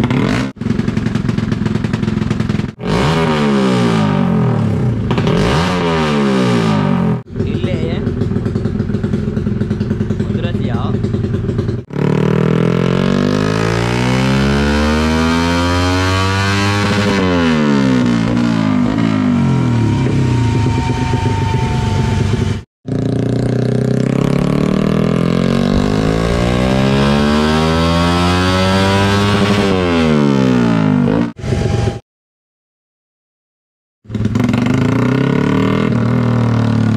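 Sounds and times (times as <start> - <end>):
motorcycle engine revving on dyno: 0.0 - 10.2, 11.5 - 31.4, 34.1 - 36.9.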